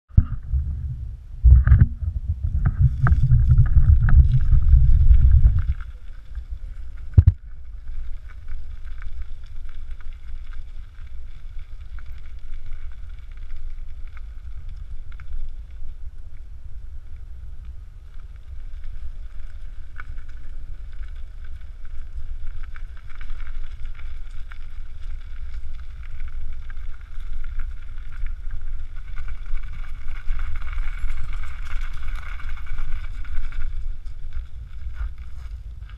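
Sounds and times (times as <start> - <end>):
wind rumble on microphone: 0.1 - 35.9.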